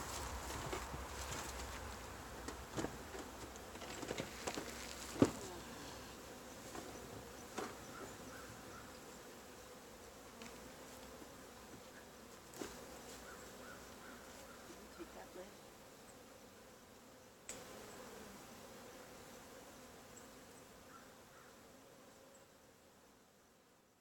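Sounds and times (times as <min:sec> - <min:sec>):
bees buzzing: 0:00.0 - 0:22.7.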